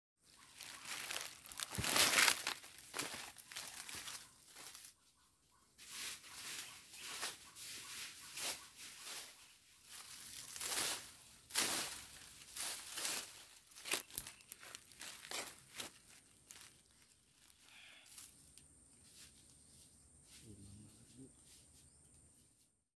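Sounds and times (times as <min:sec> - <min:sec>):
rustling and crunching: 0:00.2 - 0:05.0, 0:05.8 - 0:22.6.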